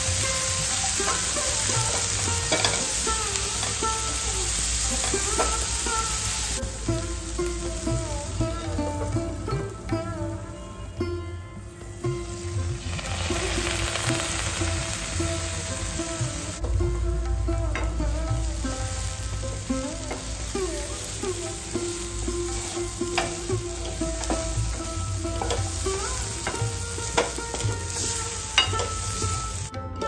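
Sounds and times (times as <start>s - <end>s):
food sizzling: 0.0s - 10.4s, 11.6s - 29.8s.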